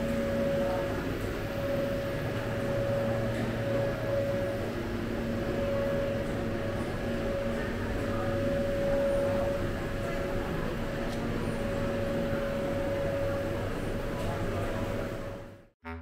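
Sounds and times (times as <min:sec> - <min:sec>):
electric fans whining: 0:00.0 - 0:15.7
room hum: 0:00.0 - 0:16.0.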